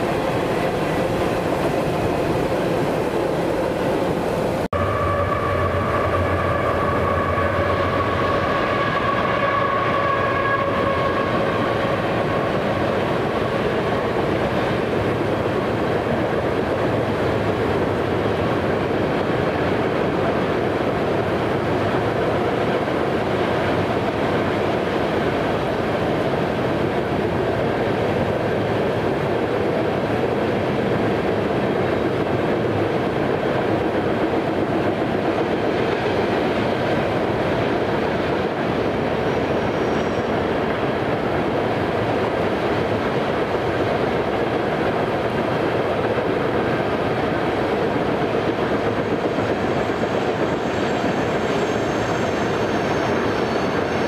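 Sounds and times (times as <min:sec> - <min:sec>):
train rail and wheel noise: 0:00.0 - 0:54.0.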